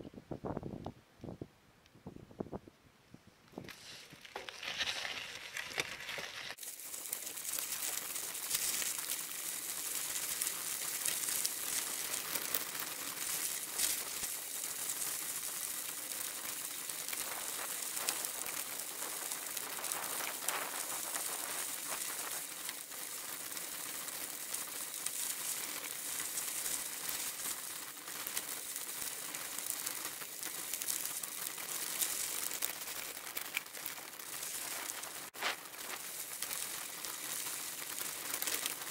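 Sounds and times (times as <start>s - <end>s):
bicycle tyres on gravel: 3.5s - 38.9s.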